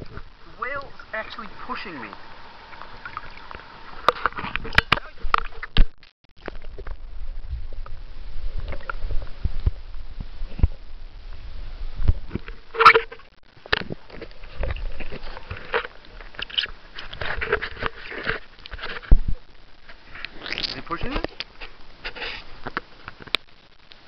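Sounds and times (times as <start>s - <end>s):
water splashing: 0.0s - 22.7s.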